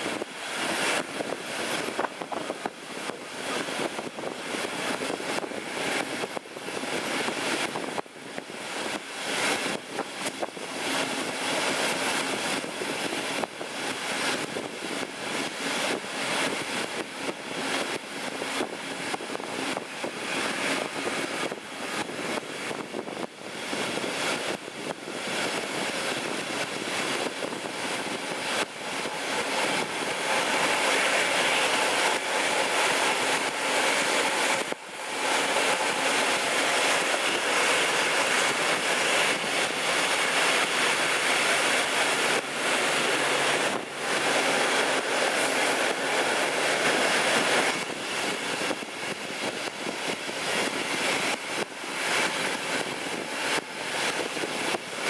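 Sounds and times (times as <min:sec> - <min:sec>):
diesel locomotive working: 0:00.0 - 0:55.0
rushing air: 0:00.0 - 0:55.0
wheel and rail noise: 0:00.0 - 0:55.0.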